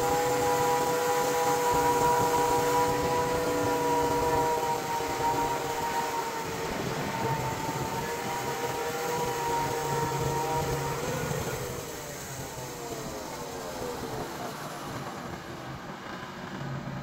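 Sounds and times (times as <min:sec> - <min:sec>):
band sawmill whine and drone: 0:00.0 - 0:17.0.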